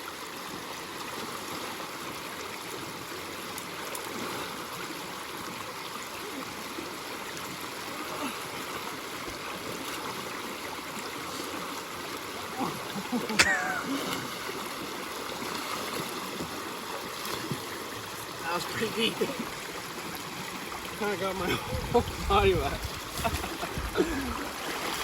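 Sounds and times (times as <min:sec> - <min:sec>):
river water running: 0:00.0 - 0:25.0.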